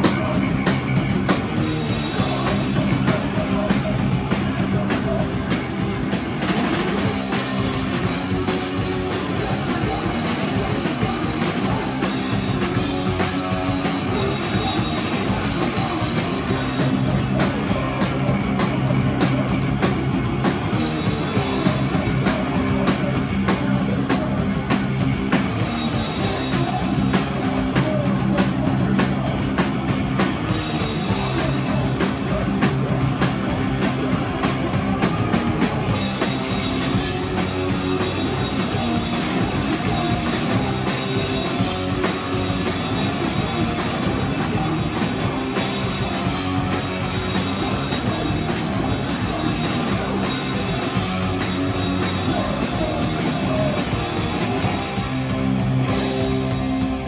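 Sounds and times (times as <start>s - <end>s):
distorted electric guitars: 0.0s - 57.0s
drum kit with crashing cymbals: 0.0s - 57.0s.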